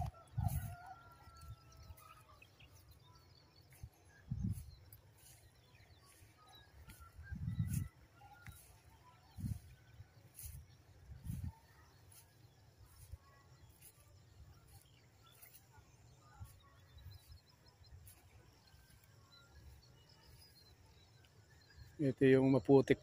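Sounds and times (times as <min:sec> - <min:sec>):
bird chirps: 0:00.0 - 0:23.0.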